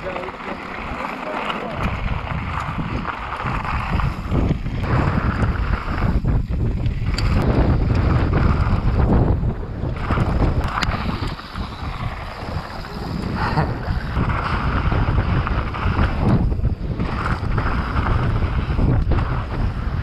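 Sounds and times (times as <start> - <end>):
bike rattling on dirt: 0.0 - 20.0
wind buffeting microphone: 1.7 - 20.0.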